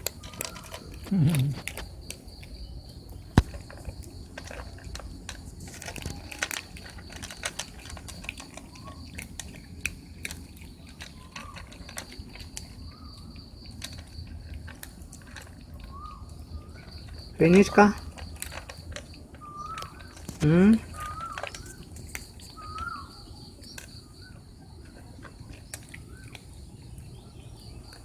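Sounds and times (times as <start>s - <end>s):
cats chewing and licking: 0.0s - 28.0s.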